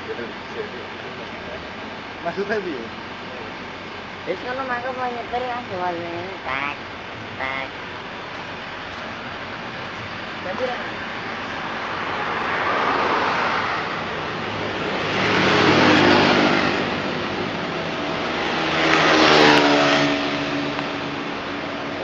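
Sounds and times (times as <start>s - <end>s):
road vehicles passing: 0.0s - 22.0s.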